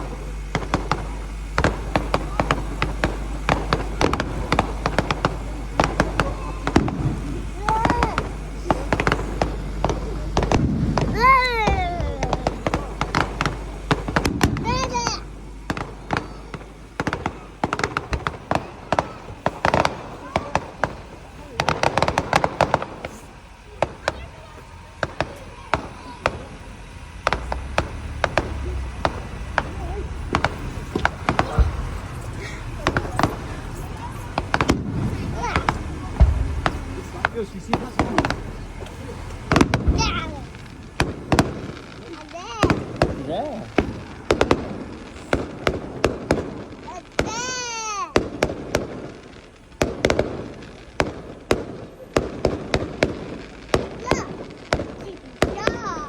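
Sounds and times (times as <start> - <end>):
low rumble: 0.0 - 21.6, 22.2 - 46.8
fireworks bangs and pops: 0.0 - 56.0.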